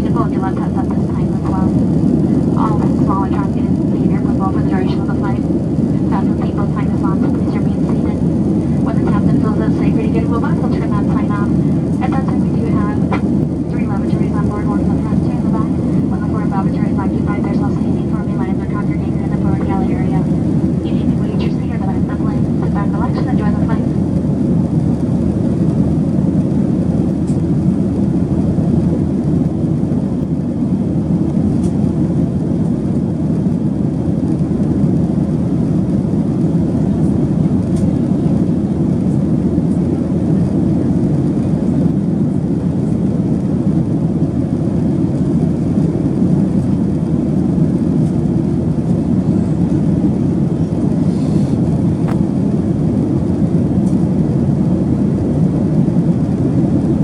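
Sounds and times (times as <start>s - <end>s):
jet engine and airflow rushing: 0.0s - 57.0s.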